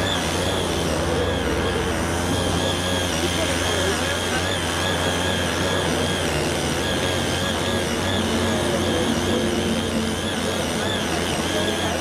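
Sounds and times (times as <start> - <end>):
tiller engine droning: 0.0 - 12.0.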